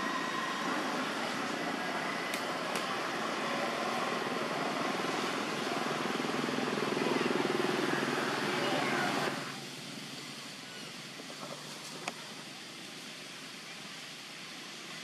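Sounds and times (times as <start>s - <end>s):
steady rushing background noise: 0.0s - 15.0s.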